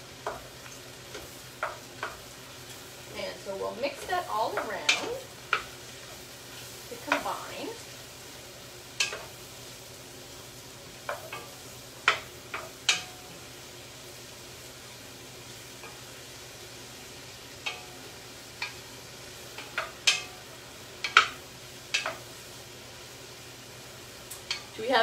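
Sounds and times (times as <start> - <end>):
mushrooms sizzling in a pan: 0.0 - 25.0.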